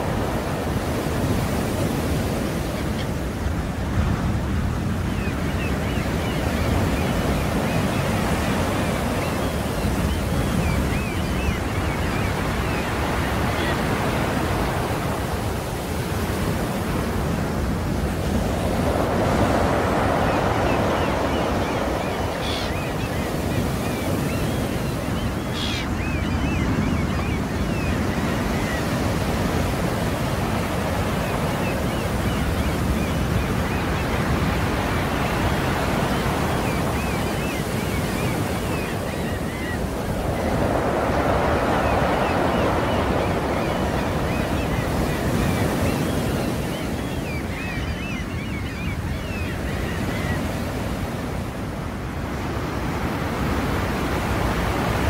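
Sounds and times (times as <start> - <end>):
sea waves washing: 0.0 - 49.4.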